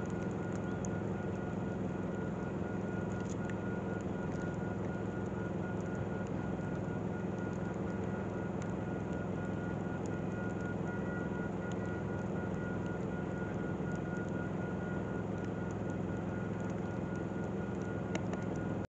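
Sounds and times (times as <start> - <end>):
low engine drone: 0.0 - 18.9.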